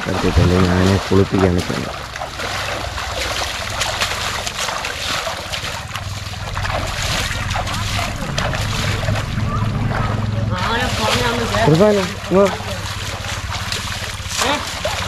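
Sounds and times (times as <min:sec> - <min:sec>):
steady low rumble: 0:00.0 - 0:15.0
water splashing and trickling: 0:00.0 - 0:15.0.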